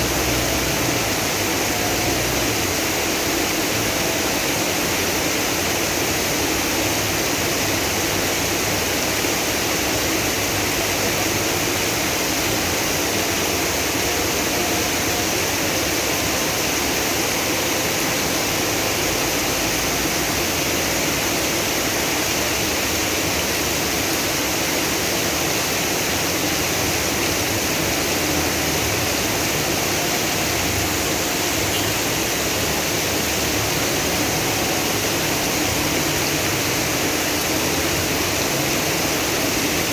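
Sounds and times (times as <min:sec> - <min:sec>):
heavy rain: 0:00.0 - 0:39.9
rushing floodwater: 0:00.0 - 0:39.9.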